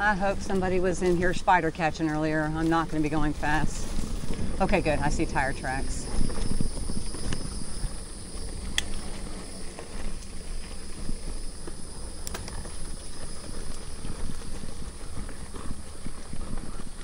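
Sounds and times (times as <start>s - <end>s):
bike rumbling over dirt: 0.0s - 17.0s.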